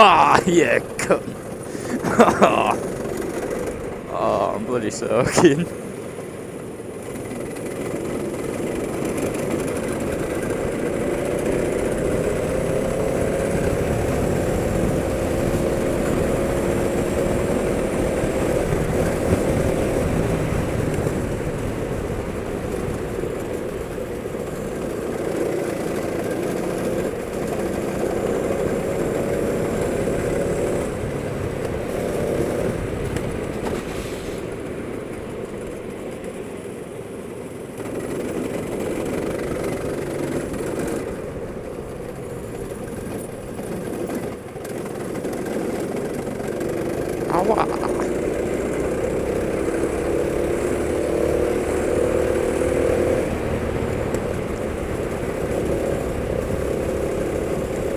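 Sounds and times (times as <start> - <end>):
go-kart engine revving: 0.0 - 57.9.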